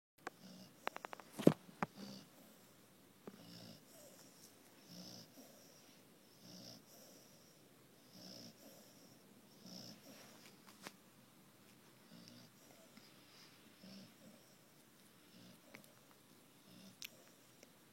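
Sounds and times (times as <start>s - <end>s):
soft snoring breaths: 0.2s - 10.6s, 11.9s - 17.8s.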